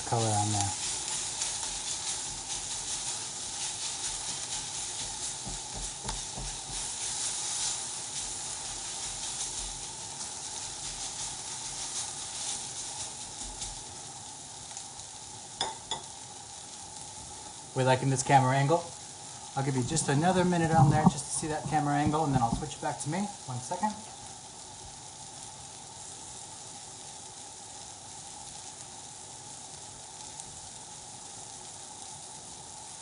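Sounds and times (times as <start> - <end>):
vegetables sizzling in a wok: 0.0 - 33.0.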